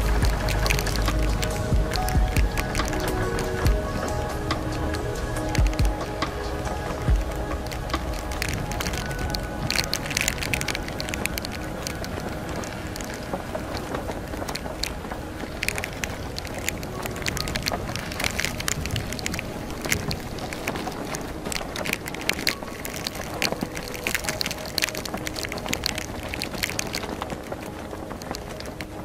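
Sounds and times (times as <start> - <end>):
rain and spray hitting boat: 0.0 - 29.0
wind blowing across microphone: 0.0 - 29.0.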